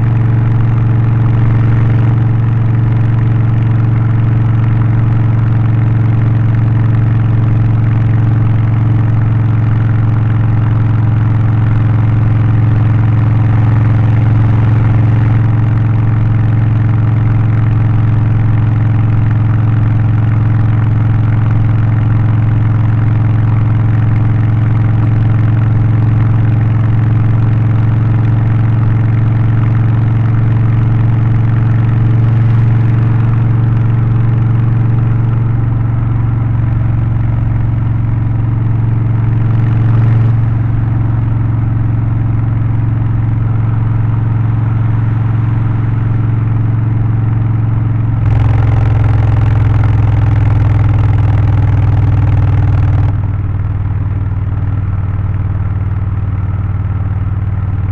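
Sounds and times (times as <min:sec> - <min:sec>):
motorcycle engine droning: 0:00.0 - 0:57.9.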